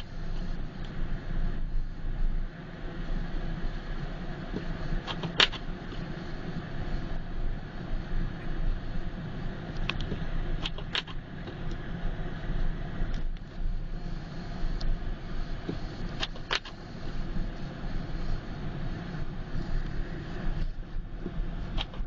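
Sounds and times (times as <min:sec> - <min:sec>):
car engine and road drone: 0:00.0 - 0:22.0.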